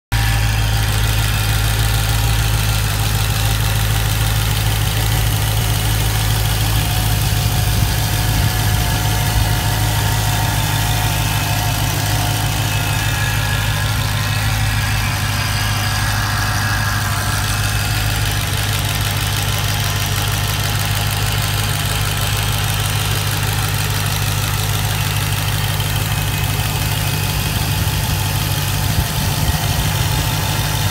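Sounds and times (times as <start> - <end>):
engine idling: 0.1 - 30.9.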